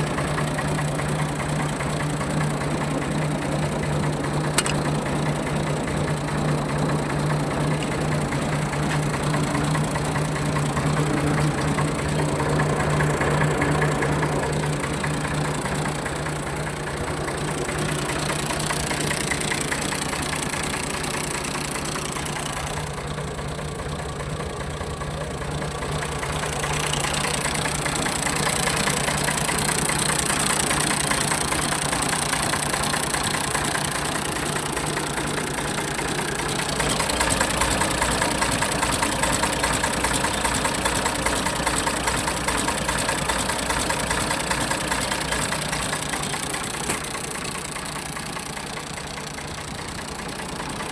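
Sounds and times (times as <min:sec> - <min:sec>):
tractor diesel engine idling: 0:00.0 - 0:50.9.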